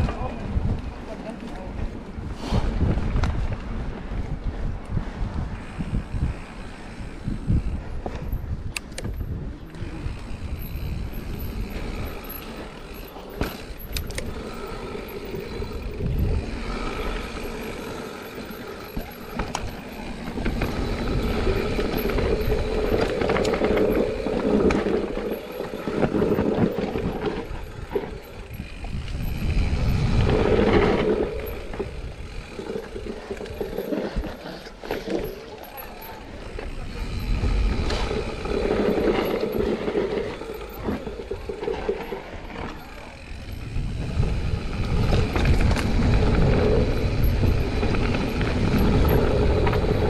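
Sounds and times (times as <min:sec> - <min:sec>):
bike chain and frame rattling: 0:00.0 - 0:50.0
bike tyres crunching over dirt: 0:00.0 - 0:50.0.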